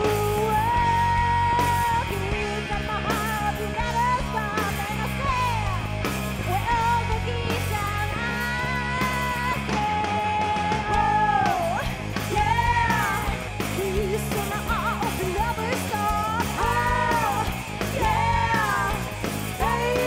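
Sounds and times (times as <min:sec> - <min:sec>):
drum kit beat: 0:00.0 - 0:20.0
electric bass: 0:00.0 - 0:20.0.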